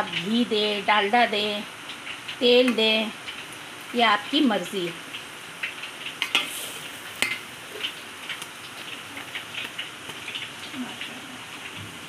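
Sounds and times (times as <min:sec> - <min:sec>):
fat sizzling on rice: 0:00.0 - 0:12.0.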